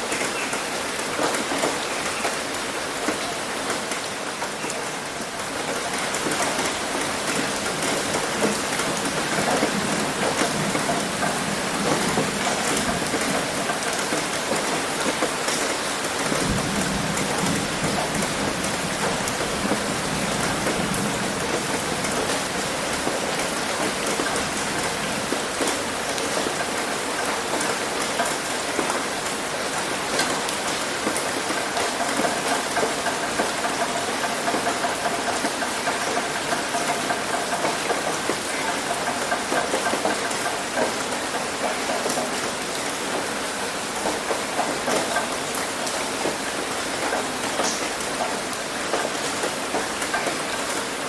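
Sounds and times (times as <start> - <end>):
heavy rain on roof: 0.0 - 51.0.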